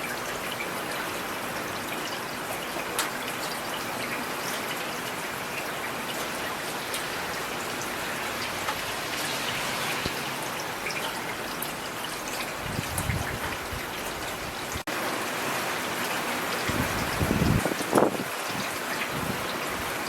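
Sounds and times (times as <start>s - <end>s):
rain falling: 0.0s - 20.0s
raindrops ticking on a surface: 0.1s - 20.0s.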